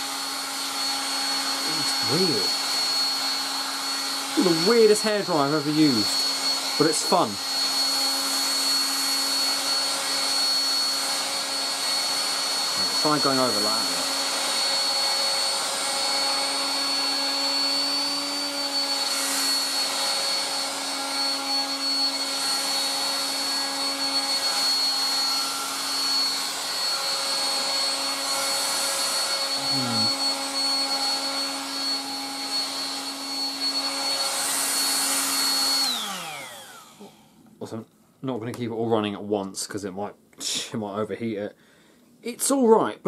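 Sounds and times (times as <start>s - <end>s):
hairdryer switched off: 0.0s - 37.4s
hairdryer running: 0.0s - 37.5s.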